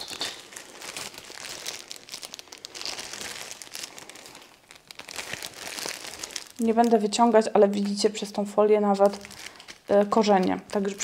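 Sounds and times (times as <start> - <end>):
plastic foil crinkling: 0.0 - 11.0.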